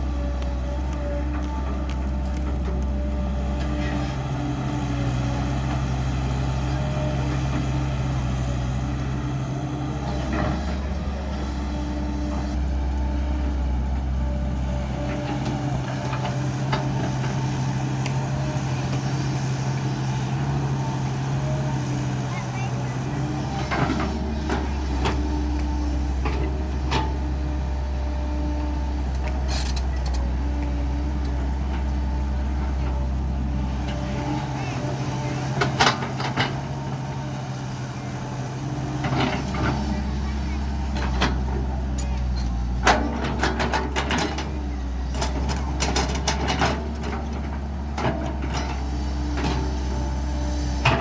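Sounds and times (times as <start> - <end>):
excavator running: 0.0 - 51.0.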